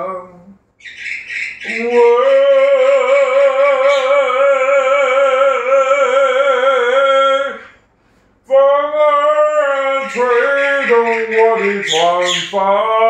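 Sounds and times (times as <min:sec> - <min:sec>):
man singing a long note: 0:00.0 - 0:00.6, 0:01.6 - 0:07.8, 0:08.5 - 0:13.0.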